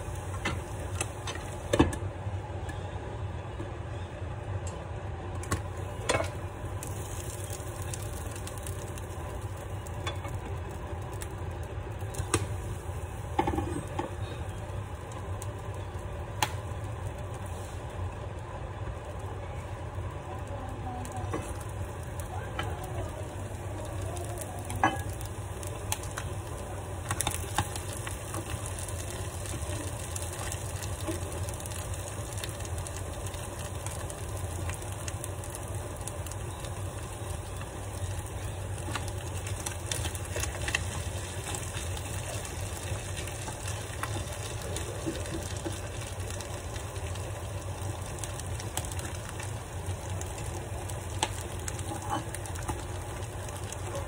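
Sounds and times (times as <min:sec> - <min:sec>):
food sizzling in a frying pan: 0:00.0 - 0:02.1, 0:05.4 - 0:54.0
constant low hum: 0:00.0 - 0:54.0.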